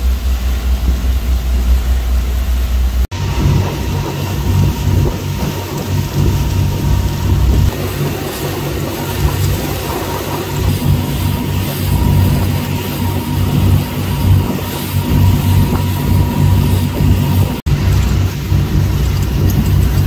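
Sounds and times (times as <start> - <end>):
motorboat engine running: 0.0 - 20.0
water rushing: 0.0 - 20.0.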